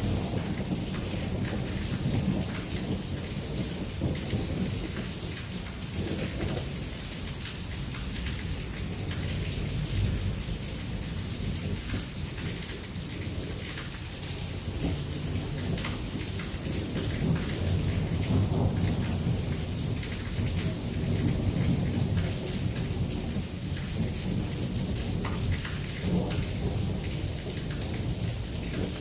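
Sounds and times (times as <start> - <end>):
heavy rain pouring: 0.0 - 29.0
rumble of thunder: 0.0 - 29.0.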